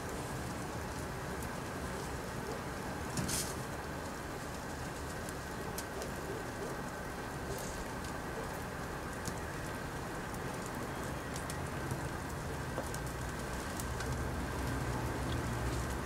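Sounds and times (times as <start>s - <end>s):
fire hissing and crackling: 0.0s - 16.0s.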